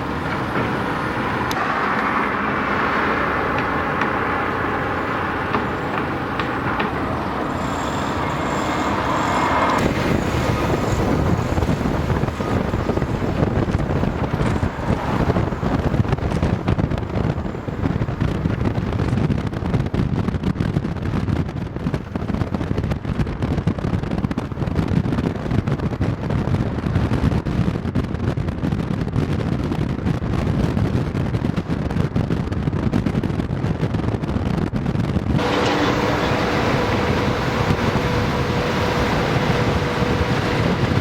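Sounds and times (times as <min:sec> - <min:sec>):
vehicle road noise: 0:00.0 - 0:41.0
wind buffeting microphone: 0:00.0 - 0:41.0.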